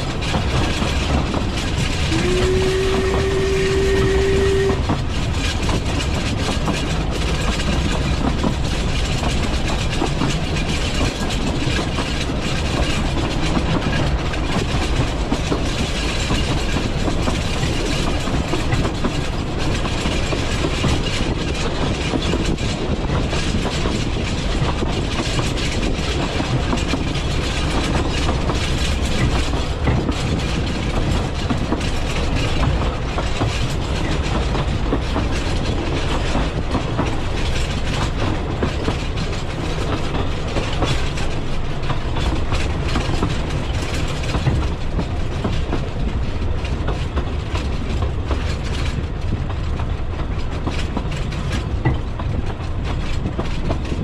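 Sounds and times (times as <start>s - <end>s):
train rumble and rattle: 0.0s - 54.0s
wheels clicking over rail joints: 0.0s - 54.0s.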